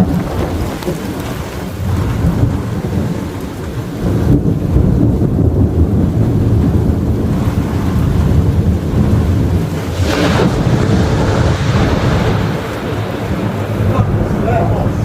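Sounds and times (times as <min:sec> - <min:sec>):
thunder rumbling: 0:00.0 - 0:15.0
wind buffeting microphone: 0:00.0 - 0:15.0.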